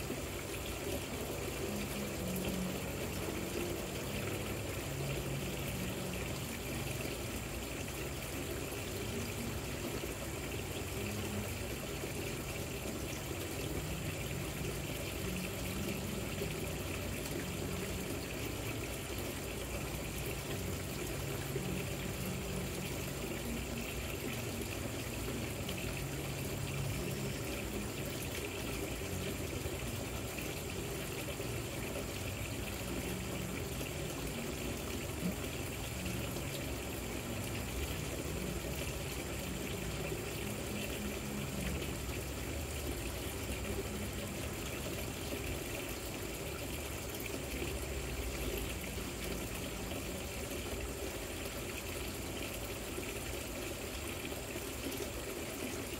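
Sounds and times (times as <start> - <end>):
fountain water trickling: 0.0 - 55.9.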